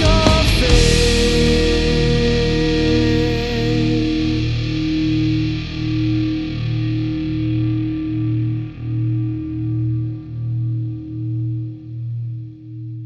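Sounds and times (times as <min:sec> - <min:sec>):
distorted electric guitar low note: 0:00.0 - 0:13.0.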